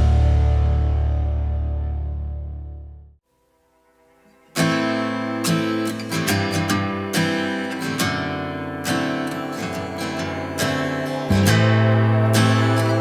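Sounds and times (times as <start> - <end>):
acoustic guitar strumming chords: 0.0 - 2.6, 4.0 - 13.0.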